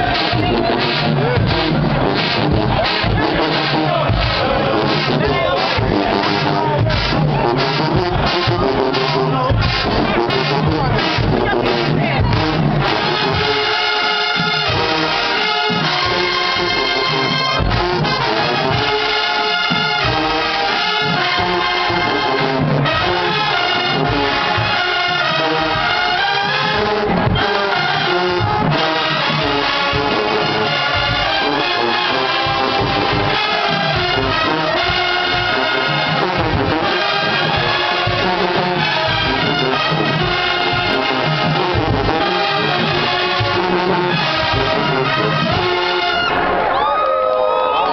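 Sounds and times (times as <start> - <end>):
steady drum beat: 0.0 - 46.7
marching band brass playing: 0.0 - 47.9.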